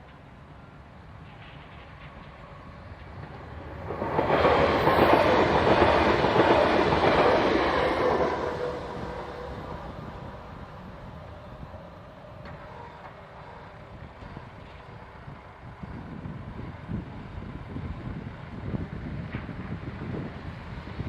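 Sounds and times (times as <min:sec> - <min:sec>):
train passing on tracks: 0:00.0 - 0:21.0.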